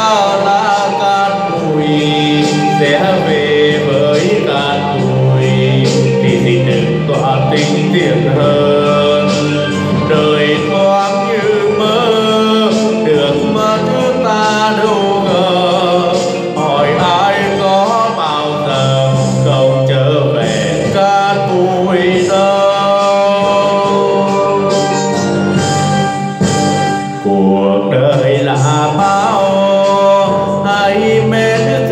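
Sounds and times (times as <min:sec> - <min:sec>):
man singing a slow ballad: 0:00.0 - 0:31.9
recorded backing music: 0:00.0 - 0:31.9.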